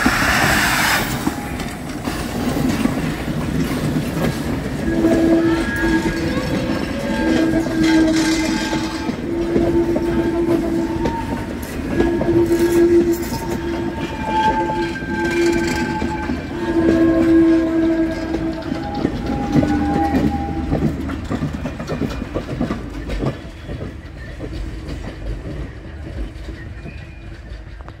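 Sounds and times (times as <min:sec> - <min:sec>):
train coaches rolling on rails: 0:00.0 - 0:28.0
wheels clacking over rail joints: 0:00.0 - 0:28.0
wheels squealing: 0:00.0 - 0:28.0.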